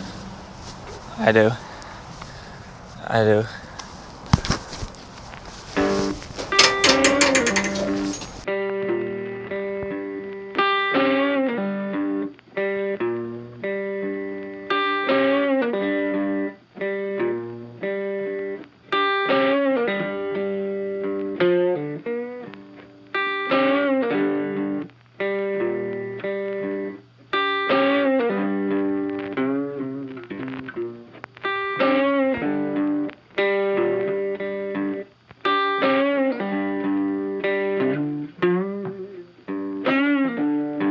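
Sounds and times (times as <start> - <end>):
plucked electric guitar: 5.8 - 40.9.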